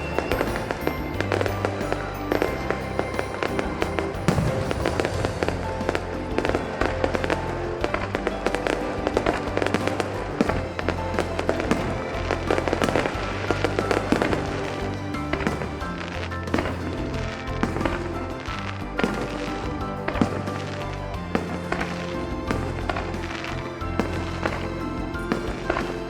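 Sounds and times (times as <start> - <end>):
fireworks bangs and crackles: 0.0 - 26.0
music with long held notes: 0.0 - 26.0.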